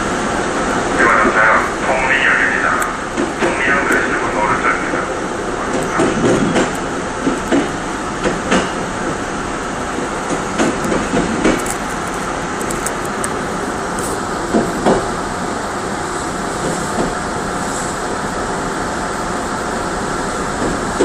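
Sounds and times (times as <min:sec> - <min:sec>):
train running rumble: 0:00.0 - 0:21.0
train wheels clacking over track: 0:02.5 - 0:18.6, 0:20.3 - 0:21.0.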